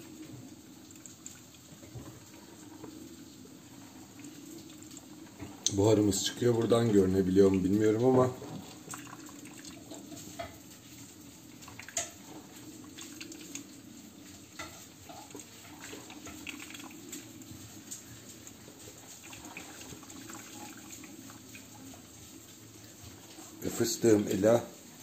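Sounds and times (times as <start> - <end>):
coffee maker water gurgling: 0.0 - 25.0.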